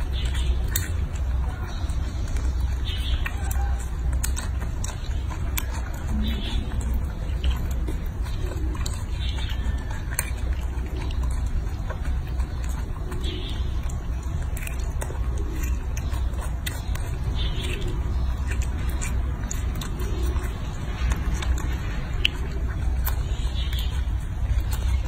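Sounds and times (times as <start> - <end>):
monkey chewing fruit: 0.0 - 25.0
steady low rumble: 0.0 - 25.0.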